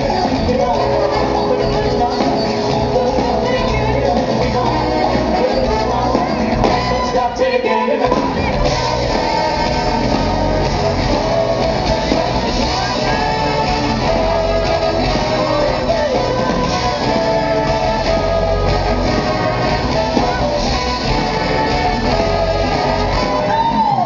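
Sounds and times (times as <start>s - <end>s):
live soul band playing: 0.0s - 24.0s.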